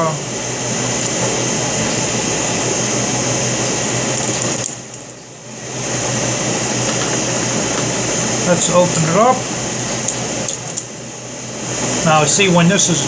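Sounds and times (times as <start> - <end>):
steady noise with low hum: 0.0 - 13.0.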